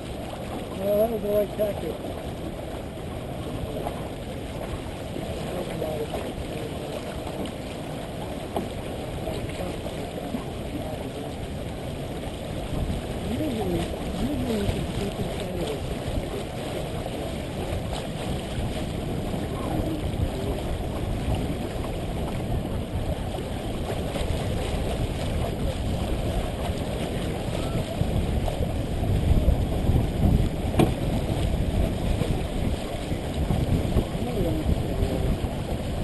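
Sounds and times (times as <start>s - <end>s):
water rushing along hull: 0.0s - 36.0s
wind buffeting microphone: 0.0s - 36.0s.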